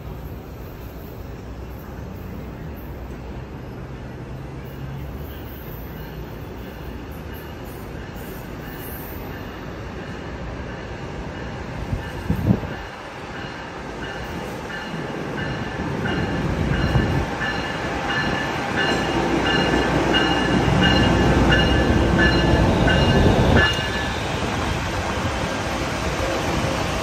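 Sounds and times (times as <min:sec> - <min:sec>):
train pulling into station: 0:00.0 - 0:27.0.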